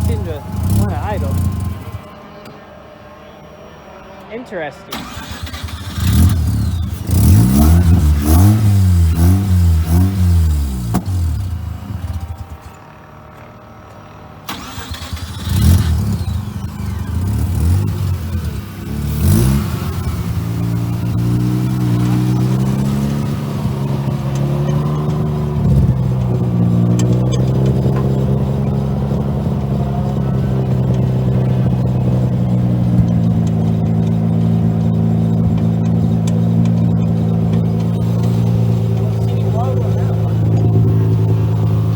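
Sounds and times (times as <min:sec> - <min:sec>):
rotary engine idling: 0:00.0 - 0:04.3, 0:04.9 - 0:41.9
rotary engine throttle blips: 0:00.0 - 0:41.9.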